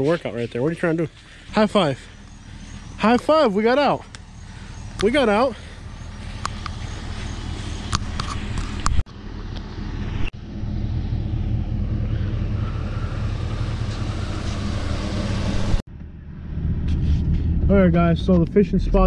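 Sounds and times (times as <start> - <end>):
pickup truck engine idling: 0.0 - 15.8.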